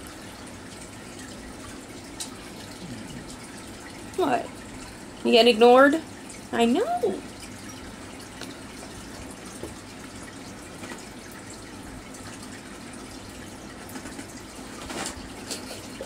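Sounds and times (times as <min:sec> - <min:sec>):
water trickling from aquarium filter: 0:00.0 - 0:16.0.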